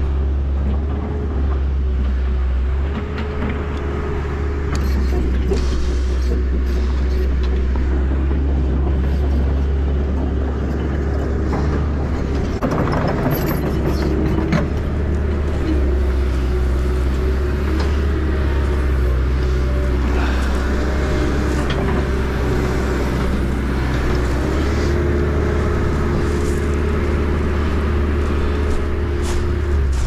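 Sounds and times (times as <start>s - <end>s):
heavy machine engine humming: 0.0s - 30.0s.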